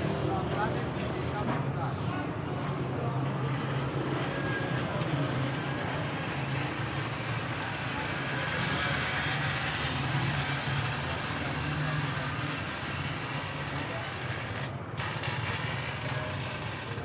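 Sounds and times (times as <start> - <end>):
vehicle engines running: 0.0 - 17.0.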